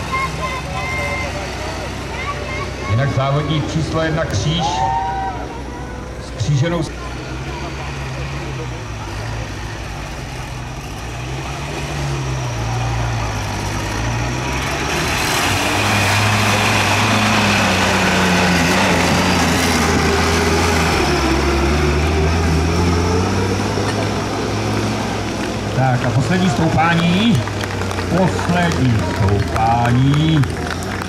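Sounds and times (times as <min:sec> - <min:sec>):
tractor engine running: 0:05.3 - 0:31.0.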